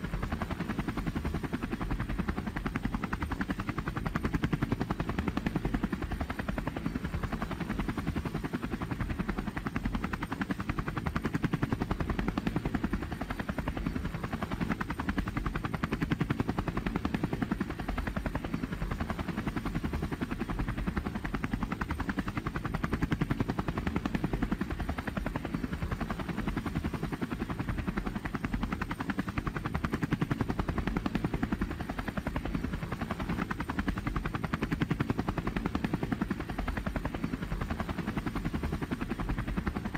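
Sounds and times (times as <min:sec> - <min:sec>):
helicopter engine drone: 0:00.0 - 0:39.9
helicopter rotor chop: 0:00.0 - 0:39.9.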